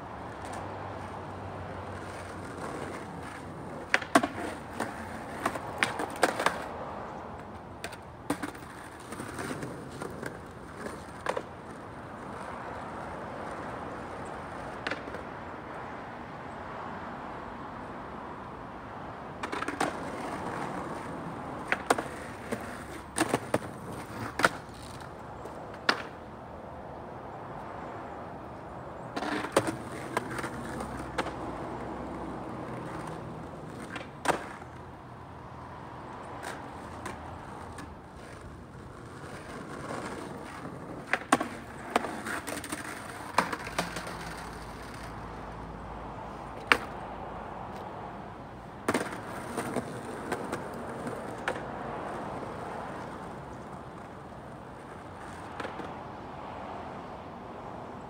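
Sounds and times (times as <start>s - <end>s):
skateboard wheels rolling on asphalt: 0.0s - 58.0s
skateboard clacking on ground: 0.3s - 15.8s, 19.4s - 26.4s, 28.9s - 34.9s, 35.9s - 45.4s, 46.2s - 48.1s, 48.8s - 56.0s.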